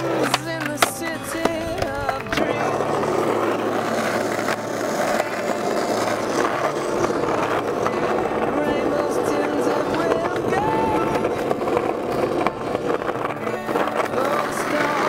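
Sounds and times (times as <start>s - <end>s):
skateboard wheels on rough asphalt: 0.0s - 15.0s.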